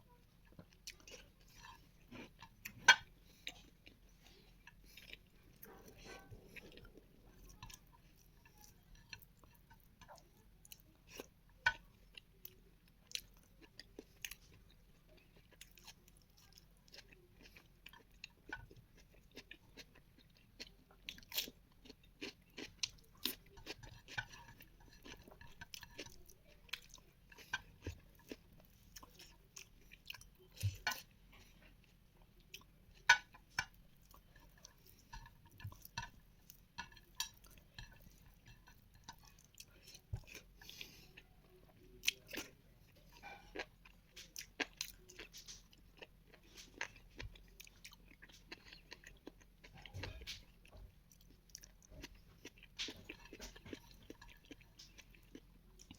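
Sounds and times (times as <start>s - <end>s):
close chewing with wet smacks: 0.2s - 55.9s.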